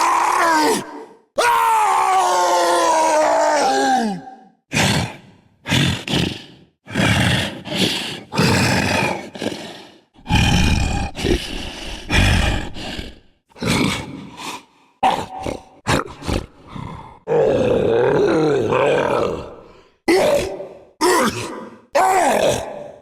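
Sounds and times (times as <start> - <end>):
person making creature roars and grunts: 0.0 - 23.0.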